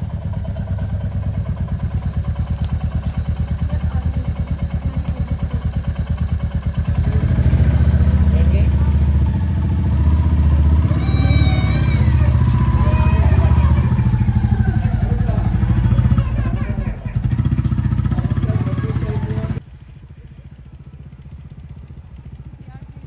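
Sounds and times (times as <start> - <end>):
distant engine: 0.0 - 23.0
motorcycle engine revving: 0.0 - 23.0.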